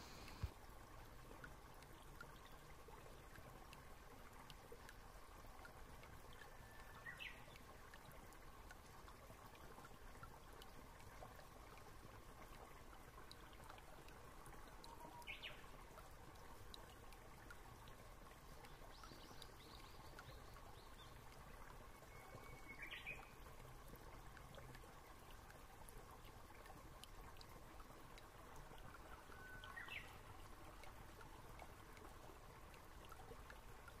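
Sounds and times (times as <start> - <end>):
faint ticks: 0.0 - 34.0.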